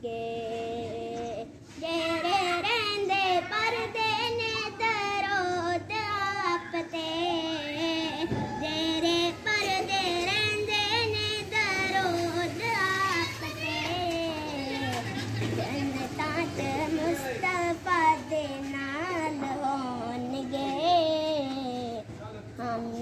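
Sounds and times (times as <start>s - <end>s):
child singing unaccompanied: 0.0s - 23.0s.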